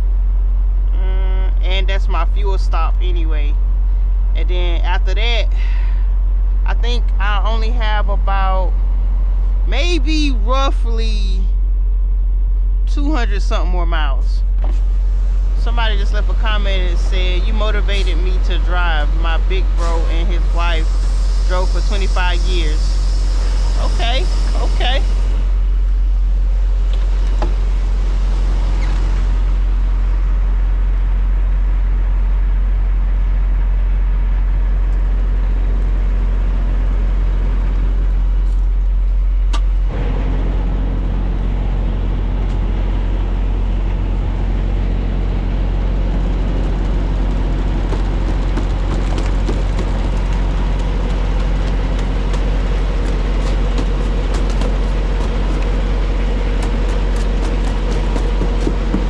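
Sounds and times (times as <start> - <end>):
road and air noise: 0.0 - 59.0
truck engine drone: 0.0 - 59.0.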